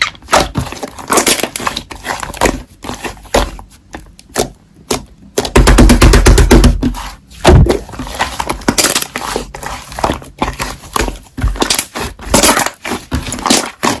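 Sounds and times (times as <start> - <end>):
slime squelching: 0.0 - 5.6, 6.7 - 14.0.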